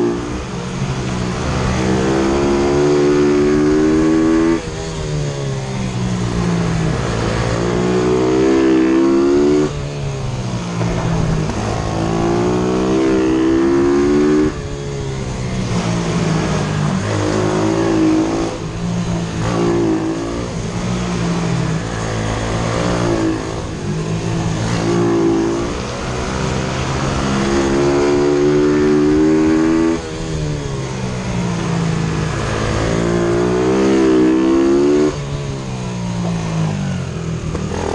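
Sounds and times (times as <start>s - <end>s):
pit bike engine revving: 0.0s - 5.1s, 5.8s - 35.6s, 36.2s - 37.9s.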